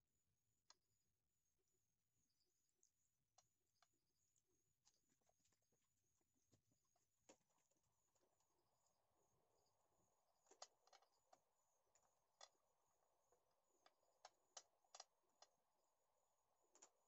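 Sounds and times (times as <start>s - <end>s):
faint sharp clicks and taps: 2.7s - 17.0s.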